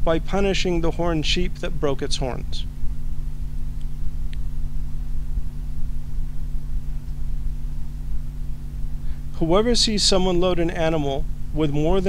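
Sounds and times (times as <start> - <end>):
steady low hum with rumble: 0.0 - 12.0.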